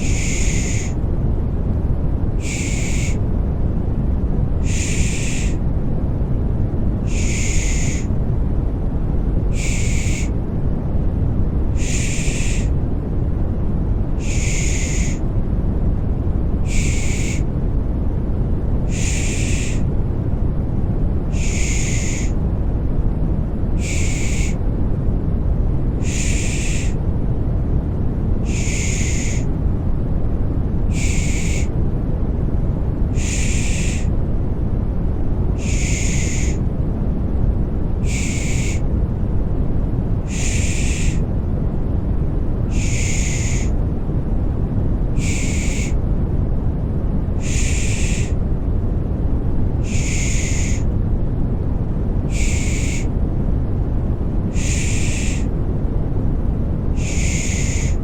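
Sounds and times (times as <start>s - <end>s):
rushing white noise: 0.0s - 58.0s.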